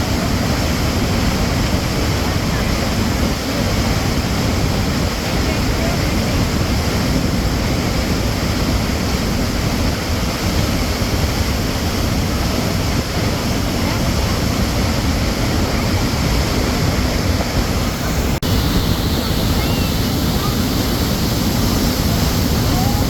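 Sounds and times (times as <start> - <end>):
stream water rushing and splashing: 0.0 - 23.0.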